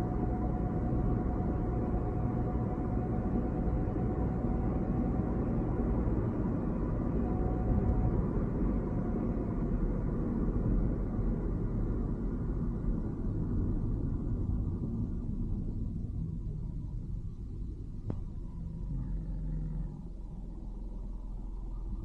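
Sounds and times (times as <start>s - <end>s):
car engine and tyre rumble: 0.0s - 22.0s
faint steady whine: 0.0s - 22.0s.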